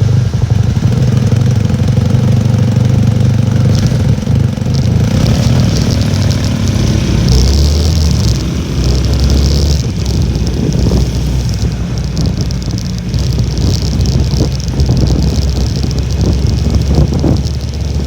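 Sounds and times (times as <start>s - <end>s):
small motorcycle engine running: 0.0s - 18.0s
wind buffeting microphone: 0.0s - 18.0s.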